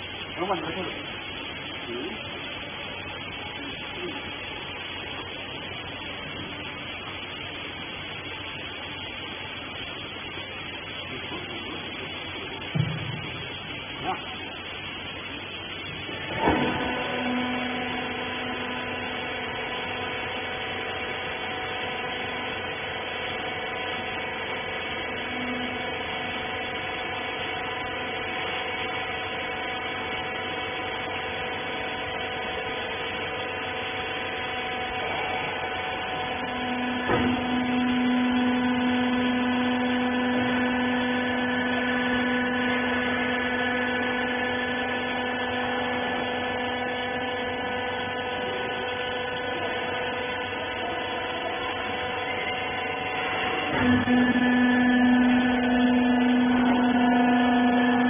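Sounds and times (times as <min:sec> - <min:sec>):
baler motor humming: 0:00.0 - 0:58.0.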